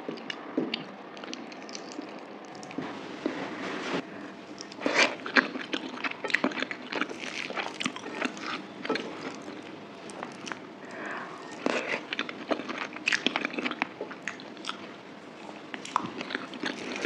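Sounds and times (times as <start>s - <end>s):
chewing and mouth noises: 0.0s - 2.8s, 4.5s - 17.0s.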